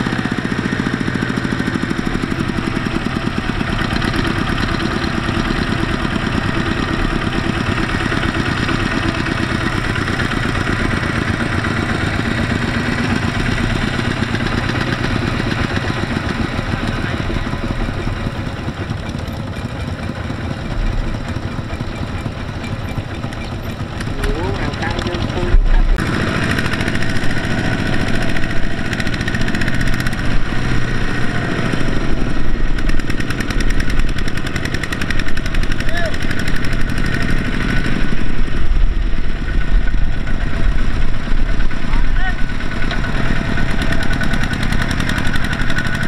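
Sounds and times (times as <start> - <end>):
diesel engine chugging: 0.0 - 46.0.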